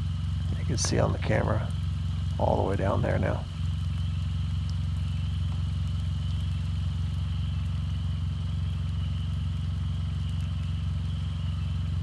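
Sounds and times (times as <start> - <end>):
car engine idling: 0.0 - 12.0
faint high whine: 0.0 - 12.0.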